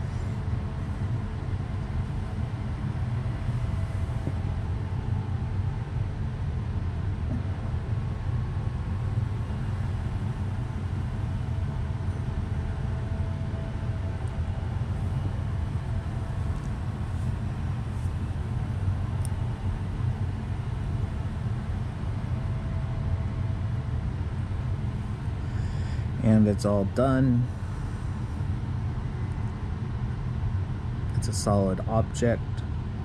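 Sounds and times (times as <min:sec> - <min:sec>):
faint steady tone: 0:00.0 - 0:30.2
low rumbling background noise: 0:00.0 - 0:33.0.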